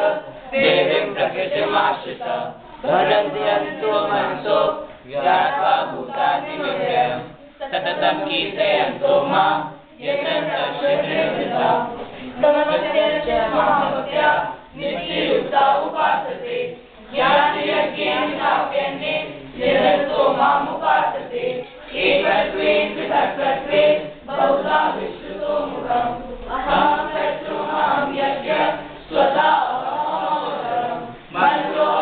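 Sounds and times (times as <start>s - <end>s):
children chanting in unison: 0.0s - 32.0s.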